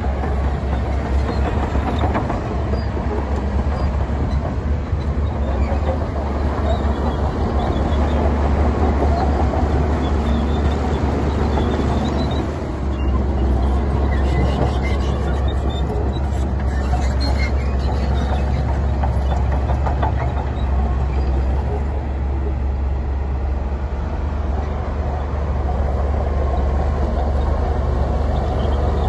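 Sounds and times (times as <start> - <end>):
heavy diesel machinery engine rumble: 0.0 - 29.0
machinery rattling and clanking: 0.0 - 29.0.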